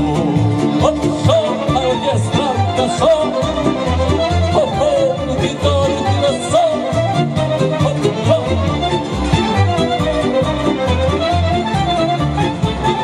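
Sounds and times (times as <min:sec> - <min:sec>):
fiddle melody: 0:00.0 - 0:13.0
pulsing bass accompaniment: 0:00.0 - 0:13.0.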